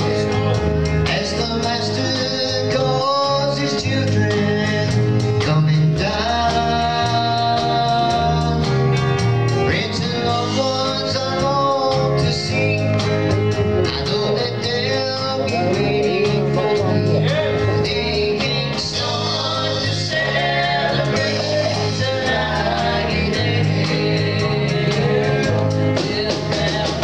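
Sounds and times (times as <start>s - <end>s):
gospel band playing: 0.0s - 27.0s.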